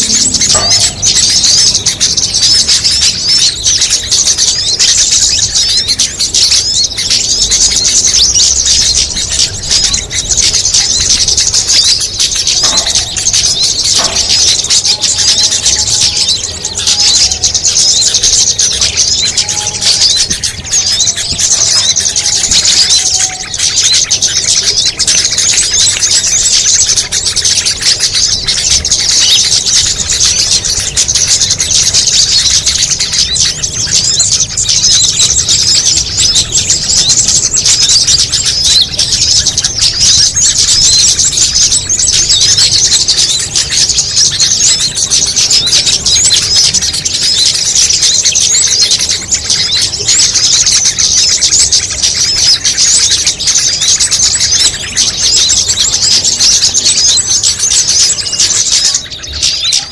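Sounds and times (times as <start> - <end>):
low whistled bird notes: 0.0 - 59.9
small songbirds chirping: 0.0 - 59.9.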